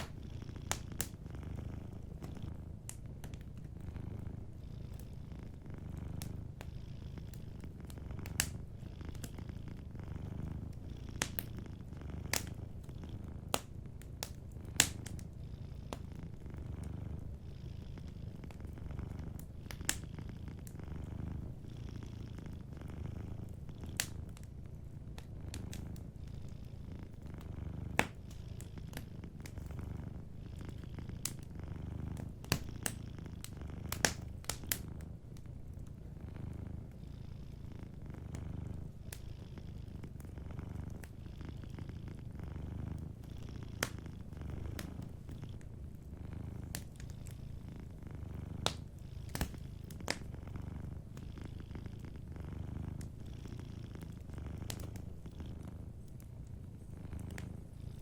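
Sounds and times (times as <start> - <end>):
wood fire crackling: 0.0 - 37.3, 38.0 - 58.0
cat purring: 0.0 - 58.0.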